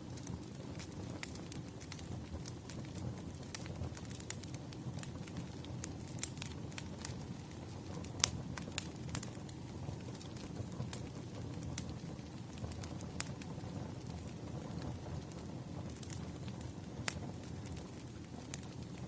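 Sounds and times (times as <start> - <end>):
fire crackles and pops: 0.0 - 19.0
fire flames rumbling: 0.0 - 19.0.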